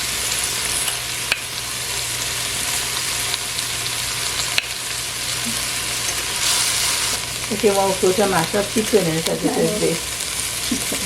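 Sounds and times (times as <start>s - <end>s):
okra sizzling in oil: 0.0s - 11.0s.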